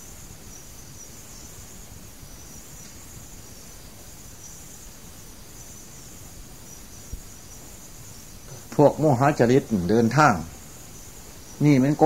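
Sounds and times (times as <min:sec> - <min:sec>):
background hiss: 0:00.0 - 0:12.0
crickets chirring: 0:00.0 - 0:12.0.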